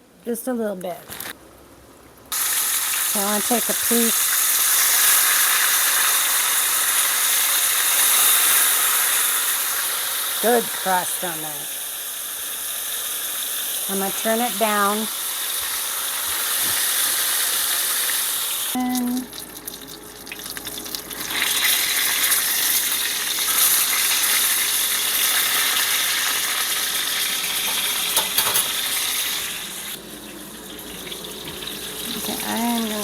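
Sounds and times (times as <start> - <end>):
chicken sizzling in hot oil: 2.3 - 33.0.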